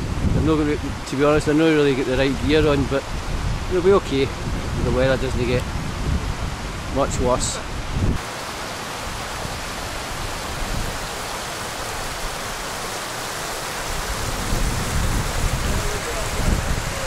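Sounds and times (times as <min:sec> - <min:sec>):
running water hiss: 0:00.0 - 0:17.0.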